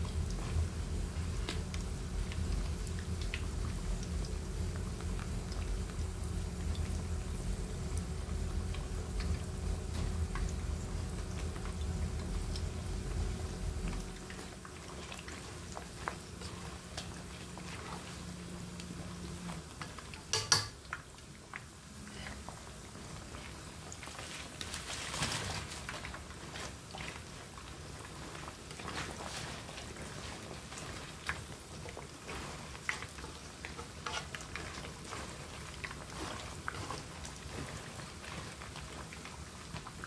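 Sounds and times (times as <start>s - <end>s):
oil sizzling and crackling: 0.0s - 40.0s.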